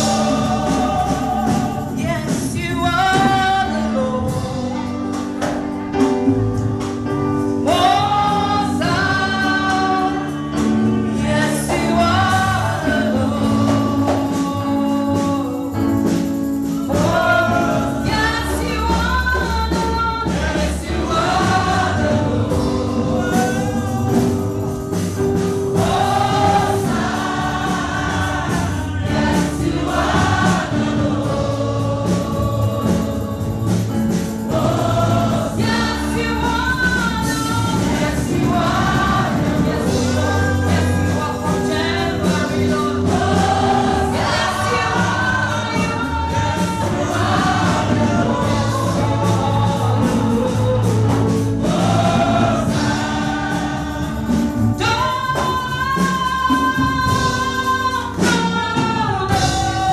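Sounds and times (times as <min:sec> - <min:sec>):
gospel choir singing: 0:00.0 - 0:59.9
instrumental backing with bass line: 0:00.0 - 0:59.9.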